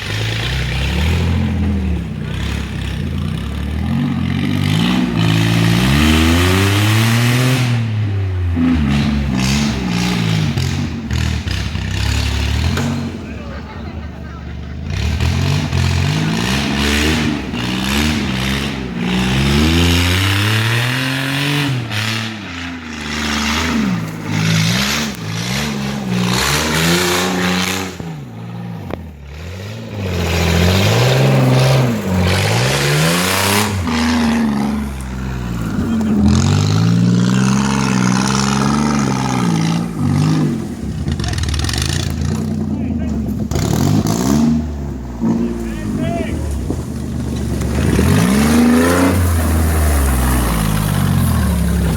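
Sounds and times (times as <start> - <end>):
off-road vehicle engine revving: 0.0 - 51.9.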